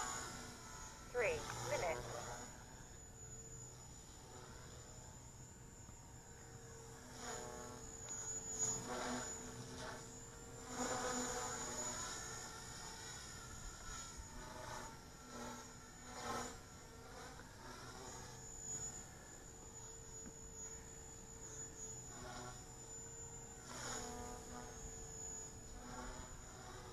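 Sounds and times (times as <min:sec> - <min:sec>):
rc helicopter motor whine: 0:00.0 - 0:26.9.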